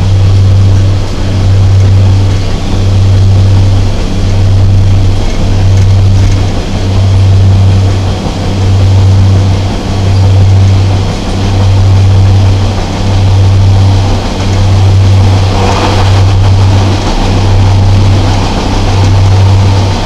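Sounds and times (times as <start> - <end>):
diesel engine low drone: 0.0 - 20.0
train running noise: 0.0 - 20.0.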